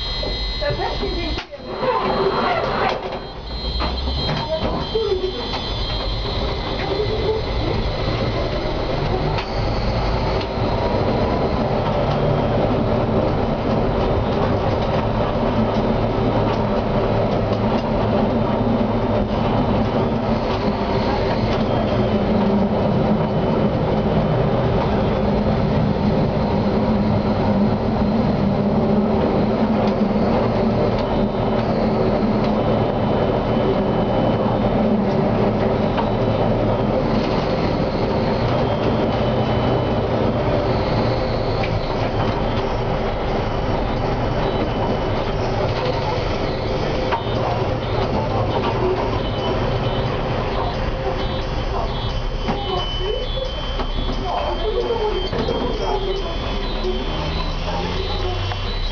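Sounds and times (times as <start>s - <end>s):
tram motor and wheel noise: 0.0s - 58.9s.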